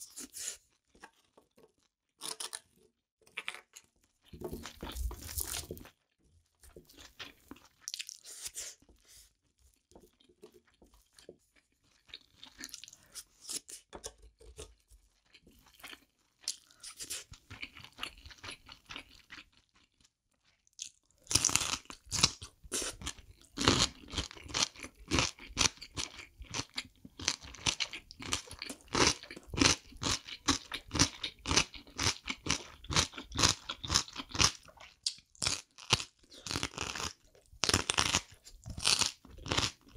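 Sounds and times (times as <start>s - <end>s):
crisp crunching chewing: 0.1s - 8.8s, 10.1s - 13.9s, 14.5s - 39.9s.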